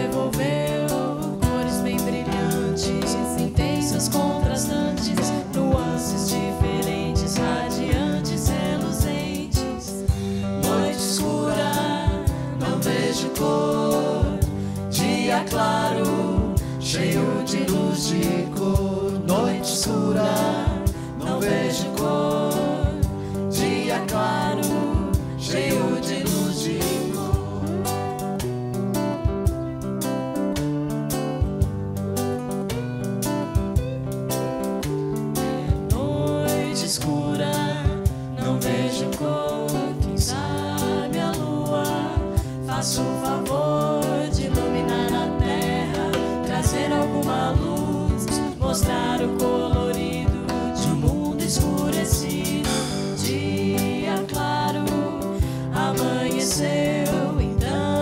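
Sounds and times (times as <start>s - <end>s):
man and woman singing: 0.0s - 28.4s, 35.4s - 58.0s
guitars: 0.0s - 58.0s.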